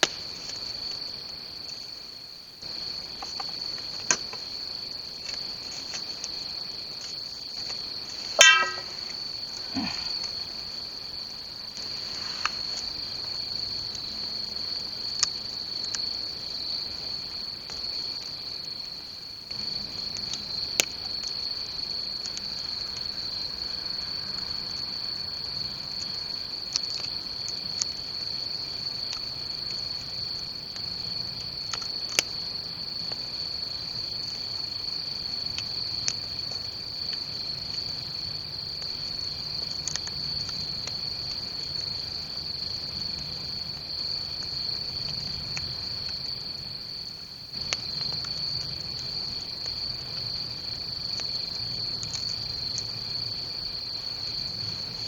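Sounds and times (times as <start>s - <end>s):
crickets chirring: 0.0s - 55.0s
bonfire wood popping: 2.6s - 23.7s, 25.9s - 55.0s.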